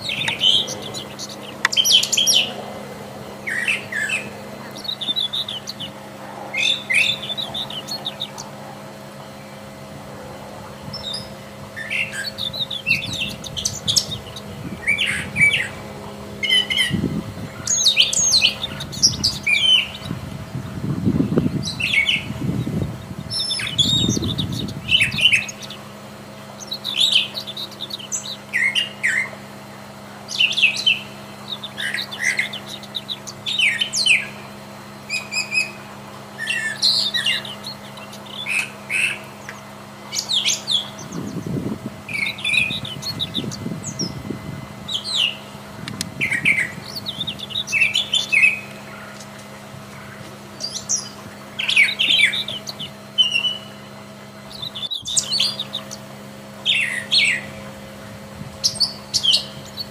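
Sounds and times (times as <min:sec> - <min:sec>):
bird singing varied phrases: 0:00.0 - 0:10.0, 0:10.6 - 0:59.9
steady low hum: 0:00.0 - 0:59.9.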